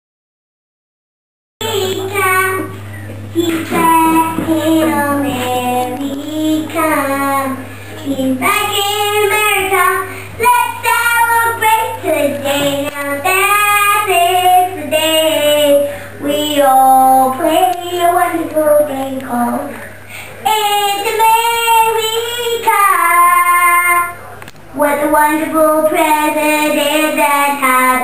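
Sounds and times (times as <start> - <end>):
child singing: 1.6 - 2.8, 3.4 - 19.8, 20.4 - 24.2, 24.8 - 28.0
steady low hum: 1.6 - 28.0.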